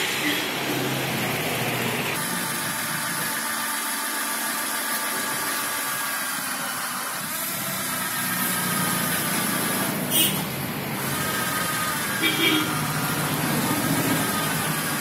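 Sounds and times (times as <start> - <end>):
cordless drill boring into plastic: 2.2 - 15.0.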